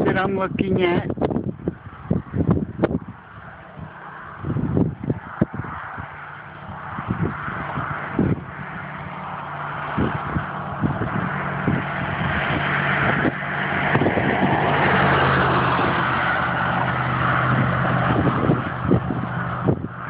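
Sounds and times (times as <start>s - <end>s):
vehicle passing: 0.0s - 20.0s
wind buffeting microphone: 0.0s - 20.0s.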